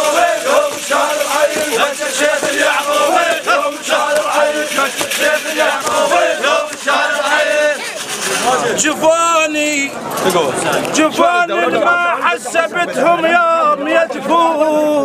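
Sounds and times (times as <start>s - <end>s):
crowd of men chanting: 0.0s - 8.7s, 11.0s - 15.0s.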